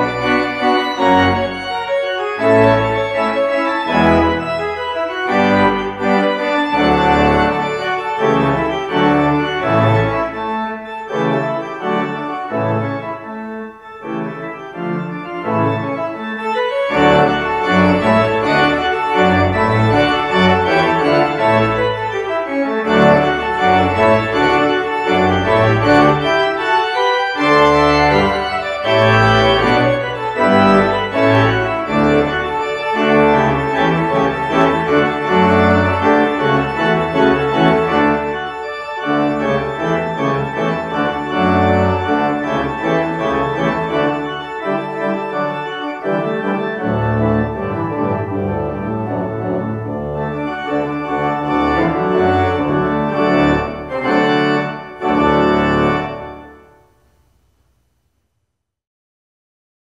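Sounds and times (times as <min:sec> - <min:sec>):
church organ chords: 0:00.0 - 0:57.8.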